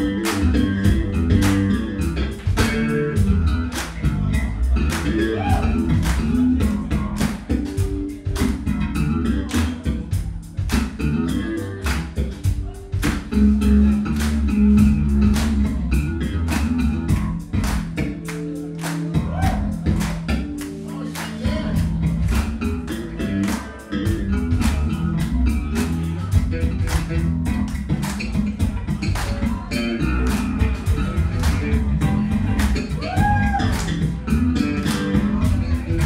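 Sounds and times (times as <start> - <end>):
bass guitar: 0.0 - 36.0
drum kit beat: 0.0 - 36.0
electric guitar: 0.0 - 36.0.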